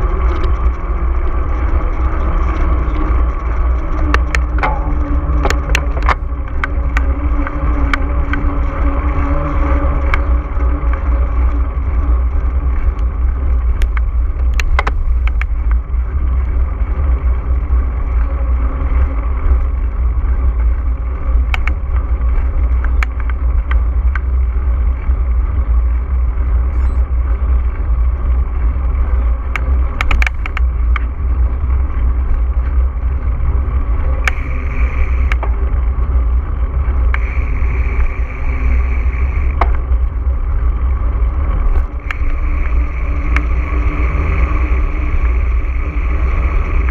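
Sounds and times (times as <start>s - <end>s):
bike rattling clicks and knocks: 0.0s - 46.9s
wind and rolling tyres rumble: 0.0s - 46.9s.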